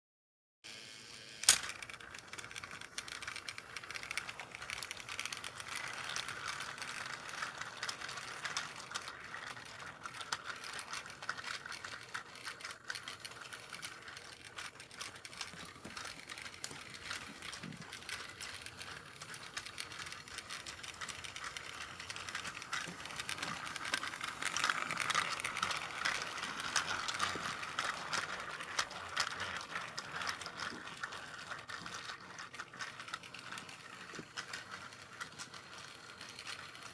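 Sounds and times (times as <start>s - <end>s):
clicking of toy train wheels: 0.7s - 36.9s
toy train motor whirring: 0.7s - 36.9s.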